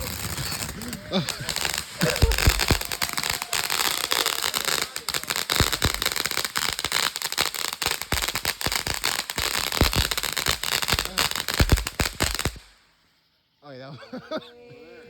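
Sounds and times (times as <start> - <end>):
fireworks pops and bangs: 0.0 - 13.0
fireworks crackling and hissing: 0.0 - 13.3.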